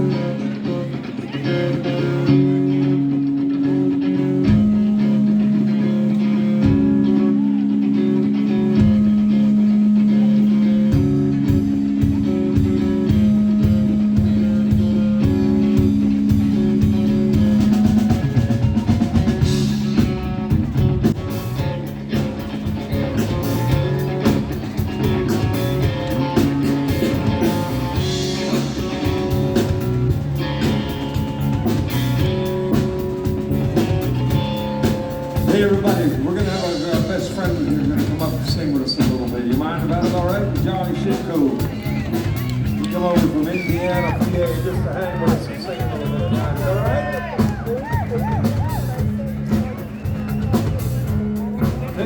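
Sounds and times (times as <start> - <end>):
guitar holding long notes: 0.0 - 52.0
drum kit steady beat: 8.7 - 52.0.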